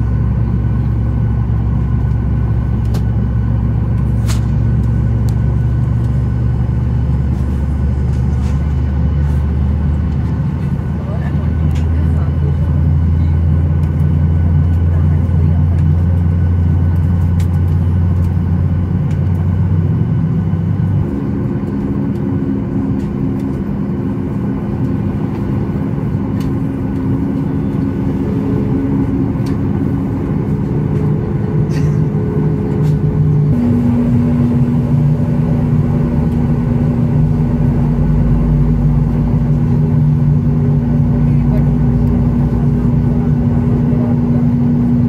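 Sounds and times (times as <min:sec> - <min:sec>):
airplane cabin drone: 0:00.0 - 0:45.0.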